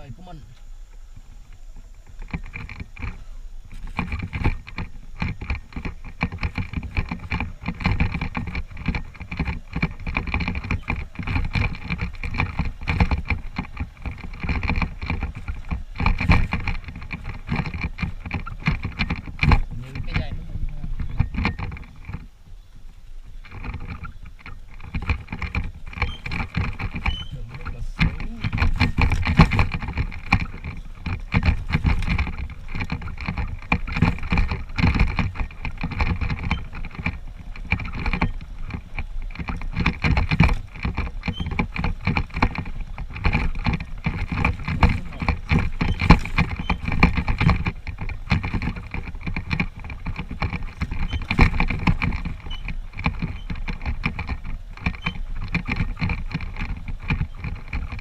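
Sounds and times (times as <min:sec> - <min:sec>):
knocks and rattles from bumps: 0:00.0 - 0:58.0
motorcycle engine running: 0:00.0 - 0:58.0.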